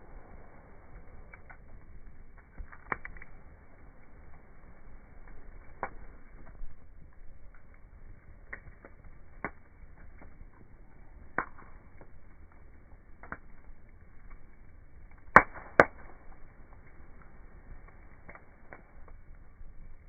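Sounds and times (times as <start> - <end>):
campfire wood crackling: 0.0 - 20.0
loud fire pops: 0.0 - 20.0.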